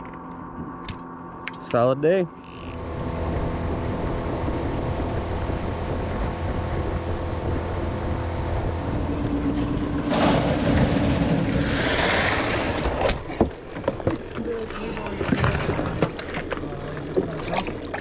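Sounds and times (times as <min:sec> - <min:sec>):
outboard motor running: 0:02.3 - 0:18.0
water rushing past hull: 0:03.0 - 0:18.0.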